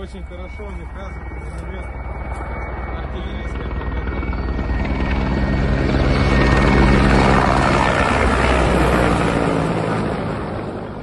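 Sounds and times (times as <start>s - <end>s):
helicopter flying past: 0.0s - 11.0s.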